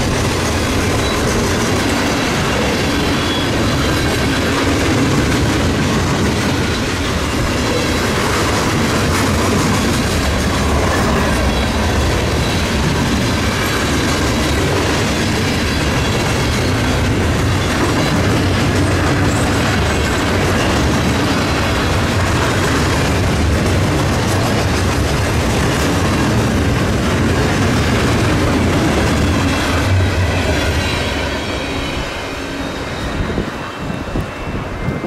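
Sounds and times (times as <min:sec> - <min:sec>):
train cars rumbling past: 0:00.0 - 0:35.0.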